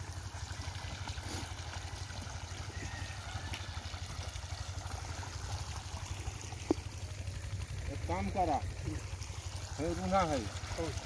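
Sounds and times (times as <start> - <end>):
water gushing from pipe: 0.0 - 11.0.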